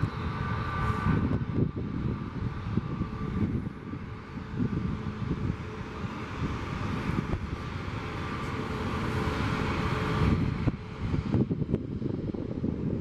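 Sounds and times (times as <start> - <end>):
distant jet engines running: 0.0 - 13.0
wind buffeting microphone: 0.0 - 13.0.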